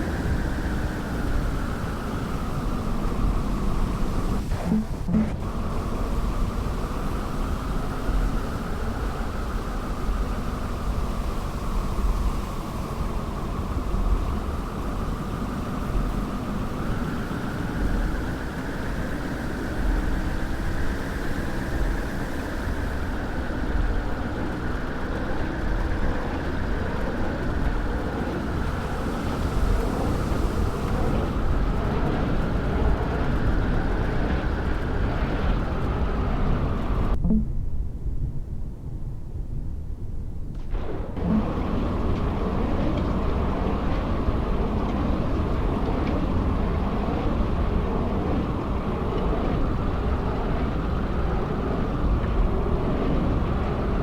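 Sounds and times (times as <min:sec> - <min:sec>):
car engine: 0:00.0 - 0:37.4, 0:40.6 - 0:54.0
road noise: 0:00.0 - 0:37.4, 0:40.5 - 0:54.0.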